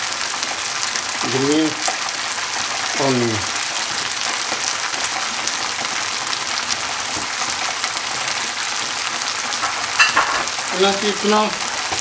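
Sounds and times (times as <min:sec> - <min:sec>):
vegetables sizzling in hot oil: 0:00.0 - 0:12.0
faint crackles: 0:00.3 - 0:12.0.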